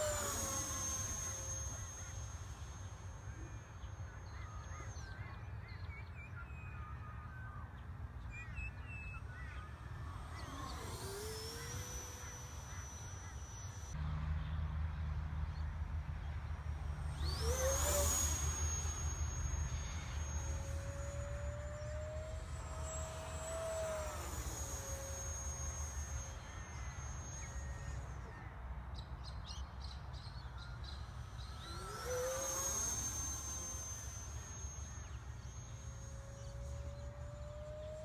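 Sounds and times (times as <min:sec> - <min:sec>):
rc jet fan whine: 0:00.0 - 0:38.0.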